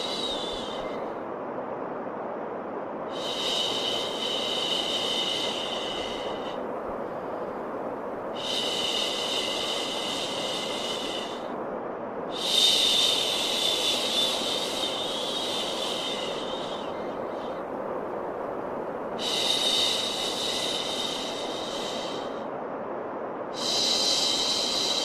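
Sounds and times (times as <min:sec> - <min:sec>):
steady white noise: 0:00.0 - 0:25.0.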